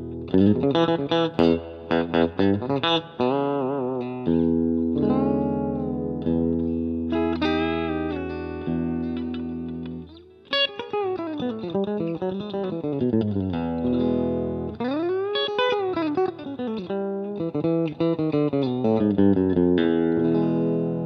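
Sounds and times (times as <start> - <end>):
electric guitar chord ringing: 0.0 - 21.0
electric guitar lead line: 0.0 - 21.0.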